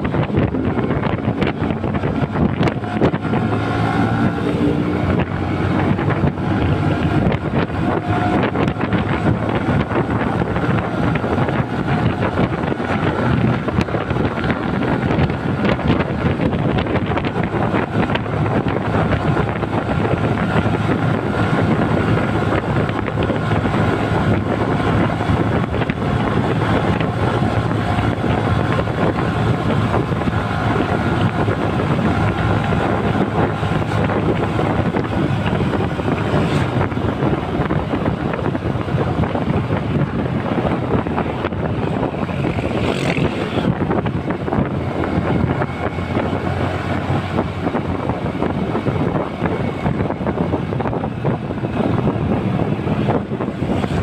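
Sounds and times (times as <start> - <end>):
motorcycle engine: 0.0 - 54.0
road noise: 0.0 - 54.0
wind rushing over microphone: 0.0 - 54.0.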